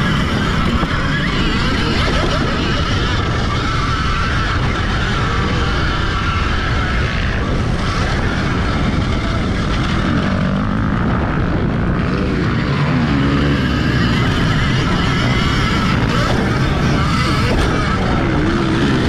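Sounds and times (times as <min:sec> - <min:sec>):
drivetrain noise: 0:00.0 - 0:19.0
electric motor whining: 0:00.0 - 0:19.0
wind noise on microphone: 0:00.0 - 0:19.0.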